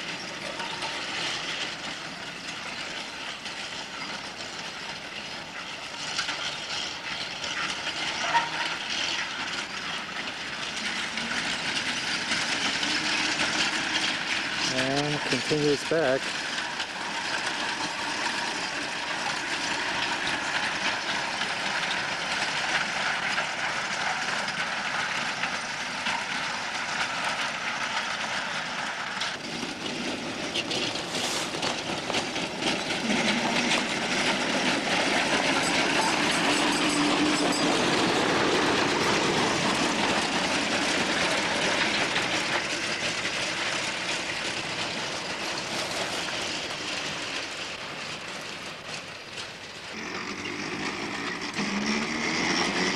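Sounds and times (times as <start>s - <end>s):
trolley wheels clattering on rails: 0.0s - 52.9s.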